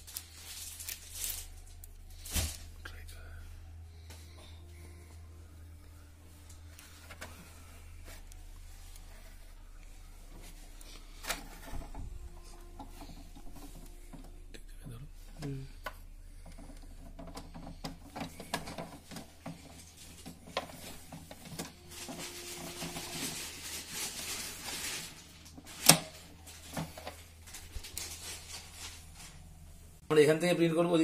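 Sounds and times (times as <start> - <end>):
plastic rubbing: 0.0 - 2.8, 6.2 - 30.0.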